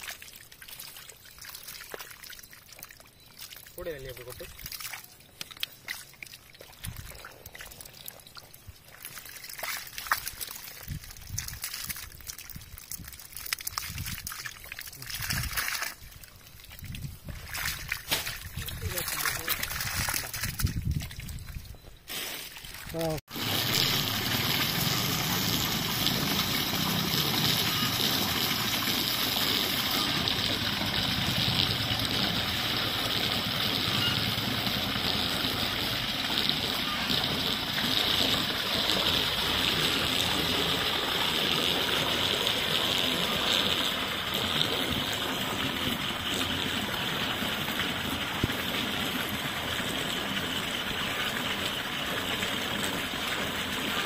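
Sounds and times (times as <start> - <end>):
water running and gurgling: 0.0 - 21.7, 22.7 - 54.0.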